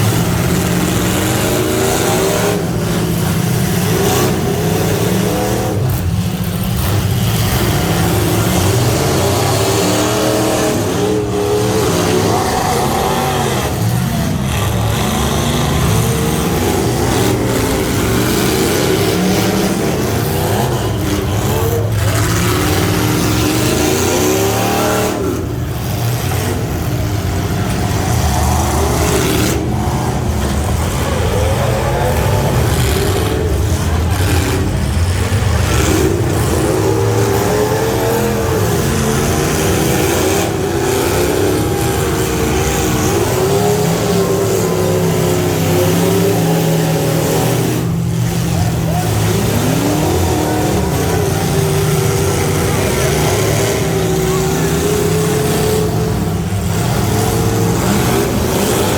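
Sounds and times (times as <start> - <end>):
pickup truck engine revving: 0.0 - 58.9.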